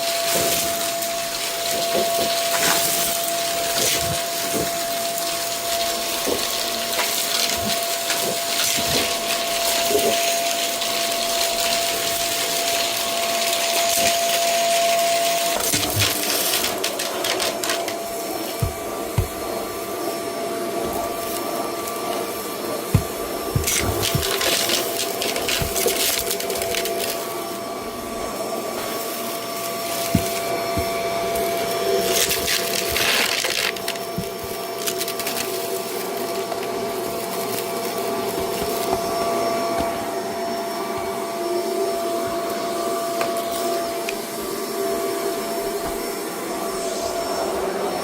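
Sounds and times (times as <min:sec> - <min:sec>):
vacuum cleaner motor whine: 0:00.0 - 0:48.0
debris rattling up vacuum: 0:00.1 - 0:27.5, 0:28.6 - 0:40.2.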